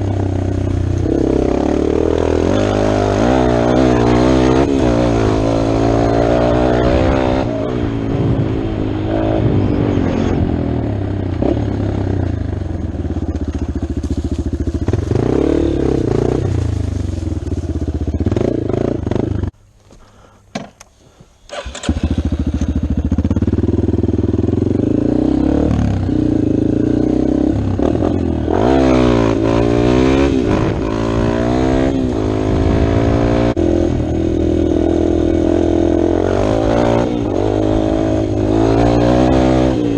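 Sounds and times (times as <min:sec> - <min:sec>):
dirt bike engine revving: 0:00.0 - 0:19.5, 0:21.5 - 0:39.9.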